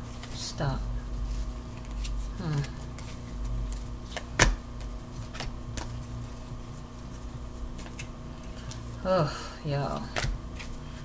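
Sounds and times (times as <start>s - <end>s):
cards being shuffled: 0.0s - 0.5s, 1.3s - 9.0s, 9.9s - 11.0s
steady low hum: 0.0s - 11.0s.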